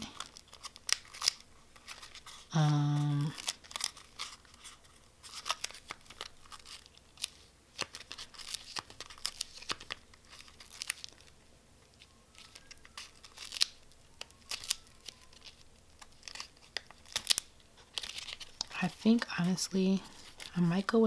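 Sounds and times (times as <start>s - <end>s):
plastic sleeves crinkling: 0.0s - 21.0s.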